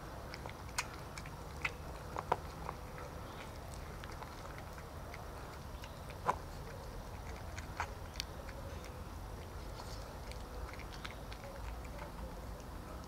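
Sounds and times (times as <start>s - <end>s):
cats chewing wet food: 0.0s - 13.0s.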